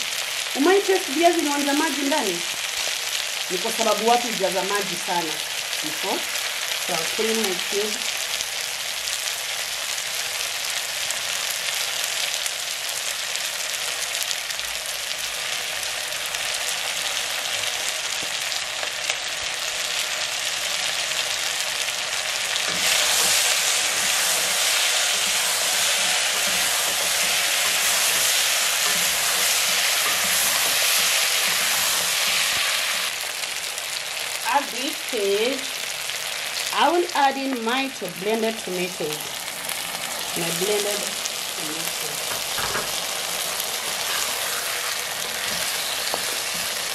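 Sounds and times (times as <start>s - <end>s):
vegetables sizzling in a pot: 0.0s - 46.9s.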